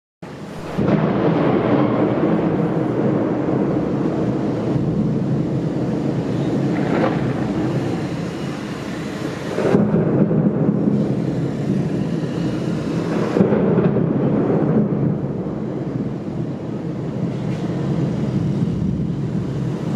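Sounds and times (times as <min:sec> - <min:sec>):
thunder rumbling: 0:00.2 - 0:19.9
loud thunder peal: 0:00.3 - 0:19.9.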